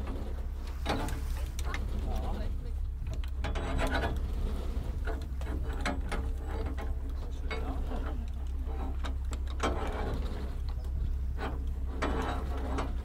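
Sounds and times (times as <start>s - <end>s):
rigging clicking and rattling: 0.0s - 13.0s
steady low rumble: 0.0s - 13.0s.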